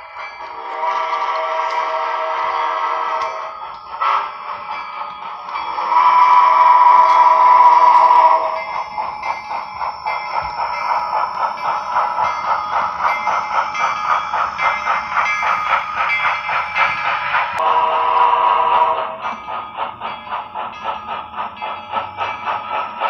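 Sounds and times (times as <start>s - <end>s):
model steam whistle chord: 0.0s - 16.2s, 17.0s - 19.4s
model steam exhaust chuffs: 0.0s - 23.0s.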